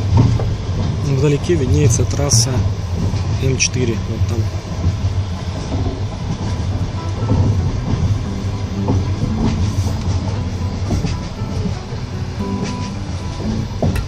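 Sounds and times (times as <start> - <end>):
train carriage rumble: 0.0 - 14.0
wheels clacking over rail joints: 0.0 - 14.0.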